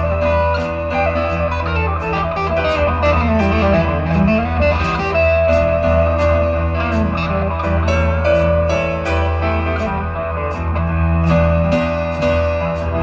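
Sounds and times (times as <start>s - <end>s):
electric guitar lead: 0.0s - 13.0s
live rock band playing: 0.0s - 13.0s.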